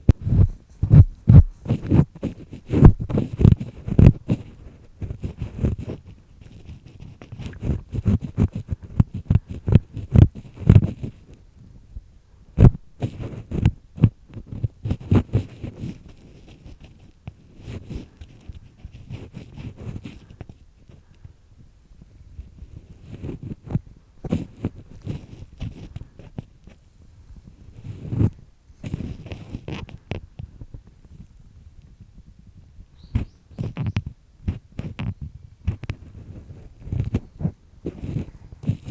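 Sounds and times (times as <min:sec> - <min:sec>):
earpick scraping in ear: 0:00.0 - 0:11.4, 0:12.6 - 0:21.3, 0:22.4 - 0:31.3, 0:33.0 - 0:38.9.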